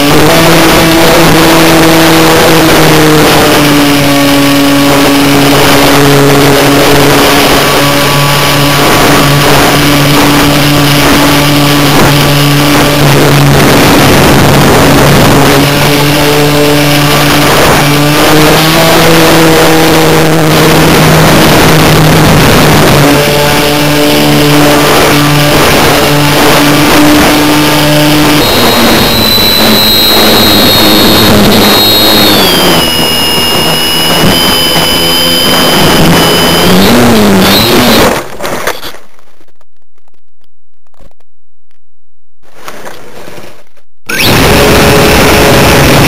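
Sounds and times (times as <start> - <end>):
model plane motor and propeller: 0.0 - 38.2
high wavering whine: 0.0 - 39.0, 44.0 - 46.0
wind rush over microphone: 0.0 - 40.1, 42.4 - 46.0.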